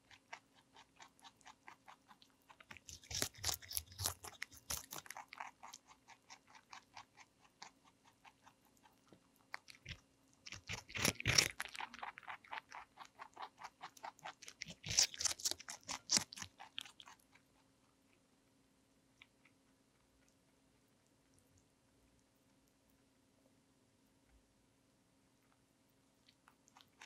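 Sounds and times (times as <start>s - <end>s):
rabbit chewing cucumber: 0.0s - 23.2s, 25.4s - 27.0s.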